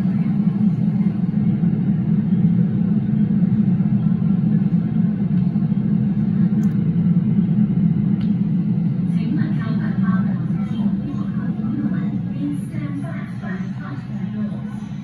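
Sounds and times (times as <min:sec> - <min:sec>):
train low rumble: 0:00.0 - 0:15.0
tunnel noise: 0:00.0 - 0:15.0.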